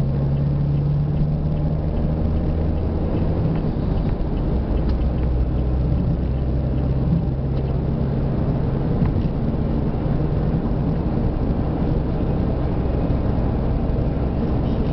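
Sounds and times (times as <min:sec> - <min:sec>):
car engine hum: 0:00.0 - 0:14.9
tyres on asphalt: 0:00.0 - 0:14.9.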